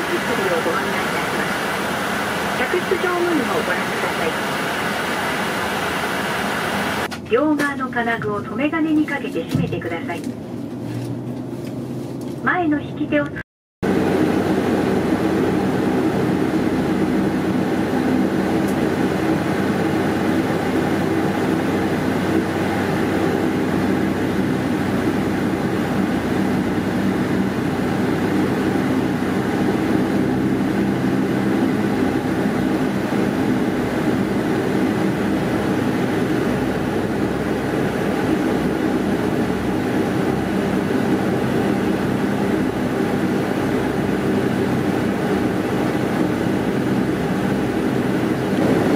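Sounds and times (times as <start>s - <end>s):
turboprop engines droning: 0.0s - 48.9s.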